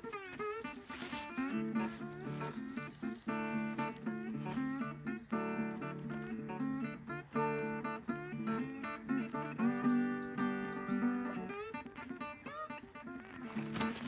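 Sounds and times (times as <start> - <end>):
acoustic guitar: 0.0 - 14.0.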